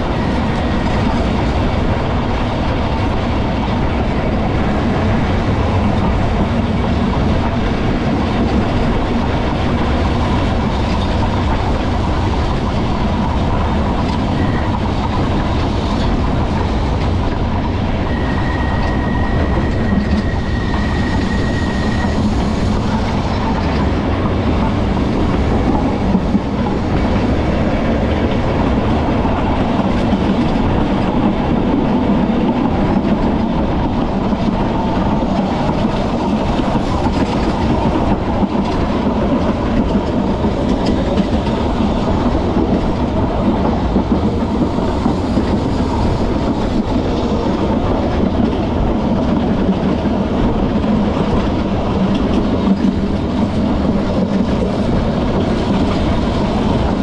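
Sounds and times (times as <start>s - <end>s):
tram wheels rolling on rails: 0.0s - 57.0s.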